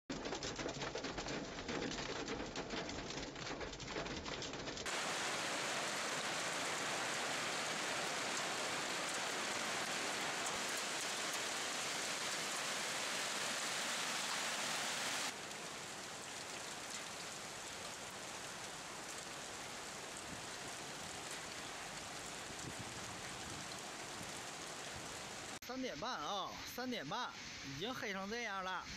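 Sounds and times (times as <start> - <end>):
heavy rain and hail: 0.1 - 25.6.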